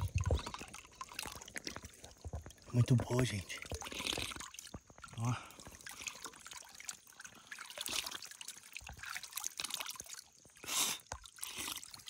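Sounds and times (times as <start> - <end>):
water trickling and dripping into basin: 0.0 - 12.0.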